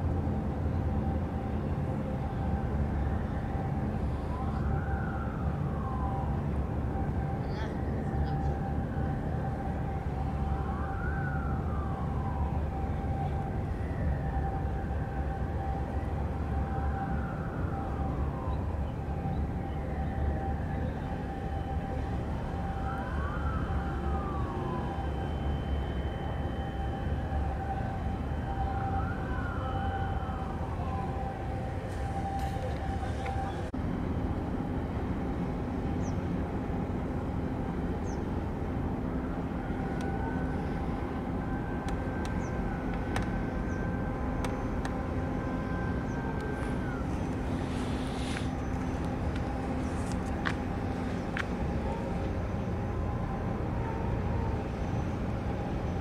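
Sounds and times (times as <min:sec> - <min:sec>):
faint siren wailing: 0:00.0 - 0:56.0
low engine rumble: 0:00.0 - 0:56.0.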